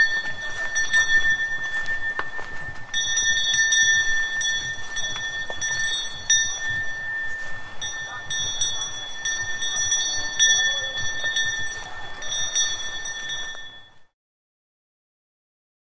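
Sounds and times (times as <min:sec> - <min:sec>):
cowbell clanking: 0:00.0 - 0:14.1.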